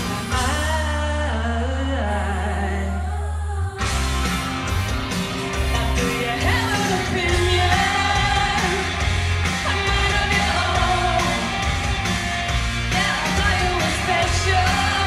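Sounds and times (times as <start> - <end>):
live rock band playing: 0.0 - 1.2, 3.8 - 15.0.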